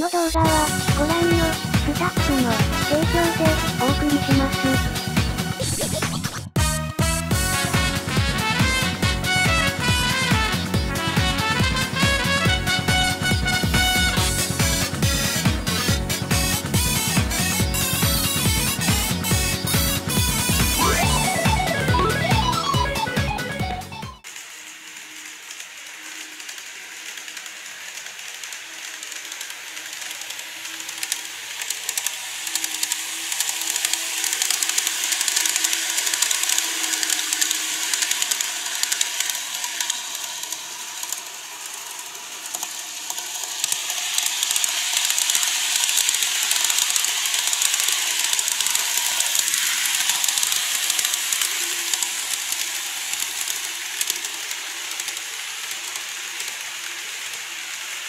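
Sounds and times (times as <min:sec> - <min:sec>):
model train wheels clicking: 0:00.1 - 0:05.6, 0:07.4 - 0:58.0.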